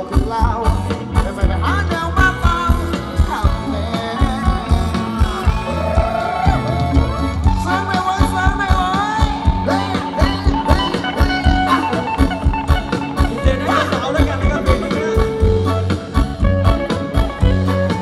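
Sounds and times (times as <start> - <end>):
bass and guitars: 0.0 - 18.0
drum kit steady beat: 0.0 - 18.0.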